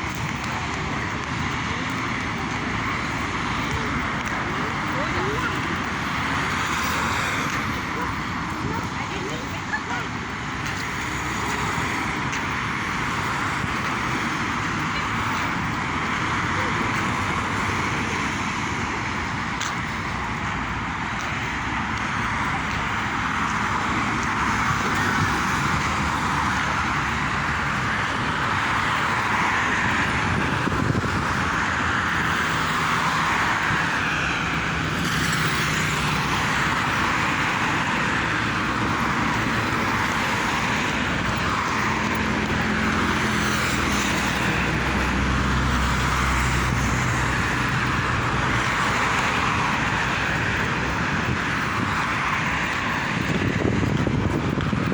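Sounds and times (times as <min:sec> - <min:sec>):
passing vehicle engine hum: 0:00.0 - 0:54.9
road traffic noise: 0:00.0 - 0:54.9.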